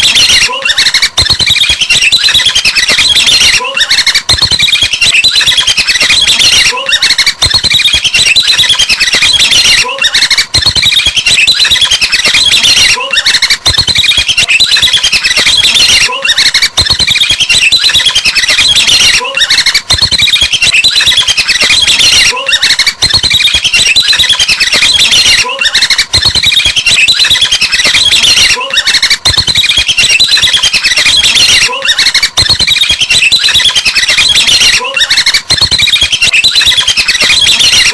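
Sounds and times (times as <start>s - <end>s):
chattering squawking bird calls: 0.0s - 37.9s.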